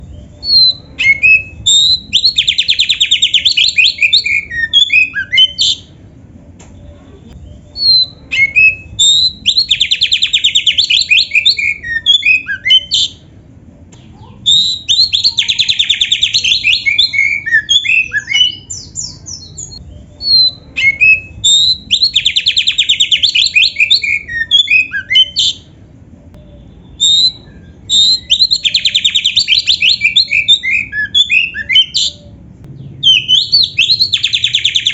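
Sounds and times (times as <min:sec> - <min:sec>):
bird singing whistles and trills: 0:00.0 - 0:05.9, 0:07.4 - 0:13.2, 0:14.5 - 0:25.7, 0:26.4 - 0:34.9.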